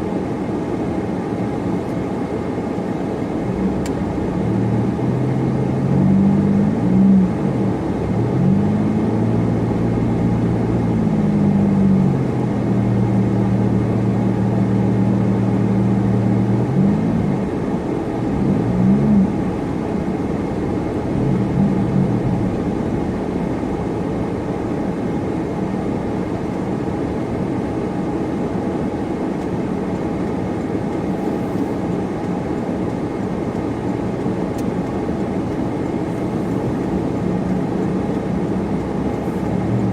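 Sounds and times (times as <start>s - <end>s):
road and tyre noise: 0.0s - 39.9s
supercharged car engine: 3.3s - 39.9s.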